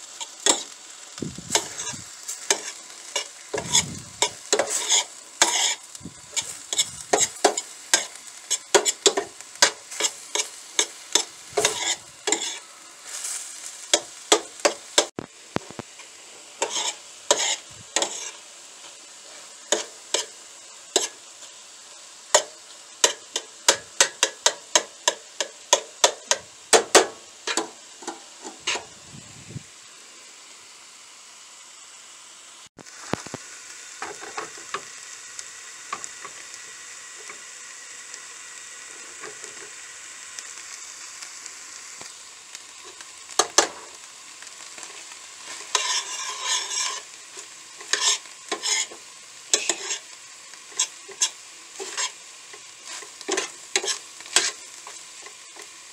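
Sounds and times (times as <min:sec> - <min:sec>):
food sizzling in a skillet: 0:00.0 - 0:55.9.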